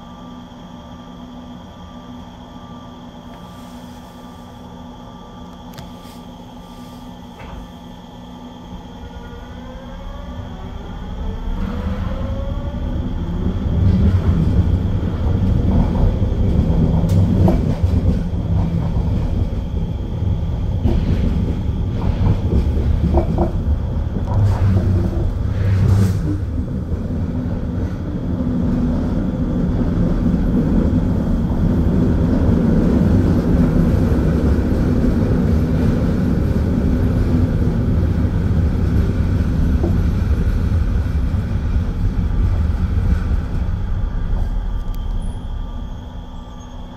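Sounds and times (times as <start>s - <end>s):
rumble of train wheels: 0.0s - 46.9s.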